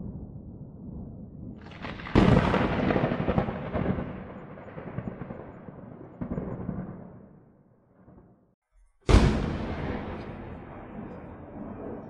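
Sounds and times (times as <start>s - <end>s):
thunder crack and rumble: 0.0s - 8.4s, 9.1s - 12.0s.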